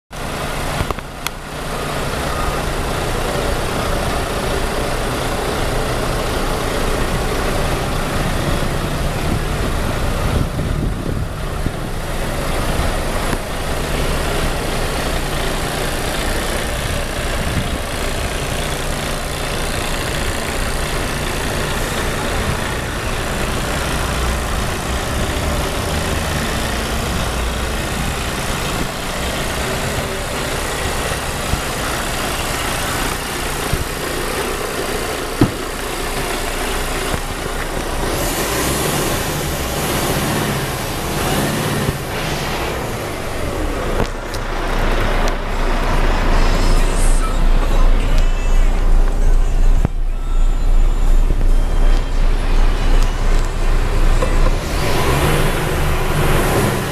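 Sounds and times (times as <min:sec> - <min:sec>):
diesel engine idling: 0:00.1 - 0:56.9.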